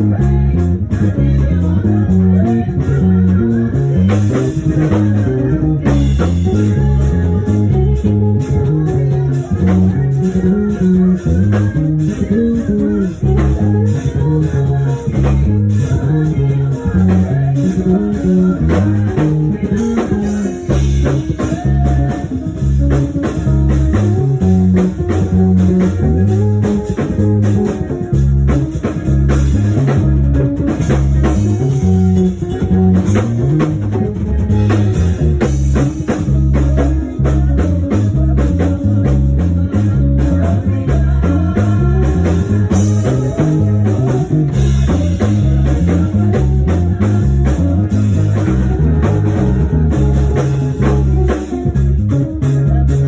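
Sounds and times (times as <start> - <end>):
live band playing groove: 0.0 - 53.0.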